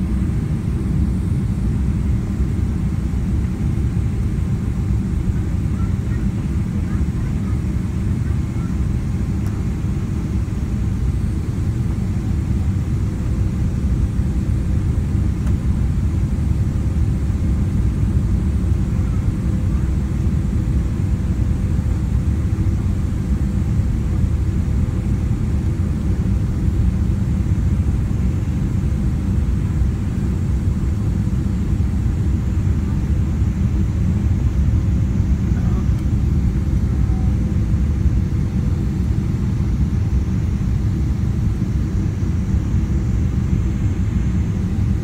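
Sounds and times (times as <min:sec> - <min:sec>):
airplane cabin engine rumble: 0:00.0 - 0:45.0
faint steady hum: 0:00.0 - 0:45.0.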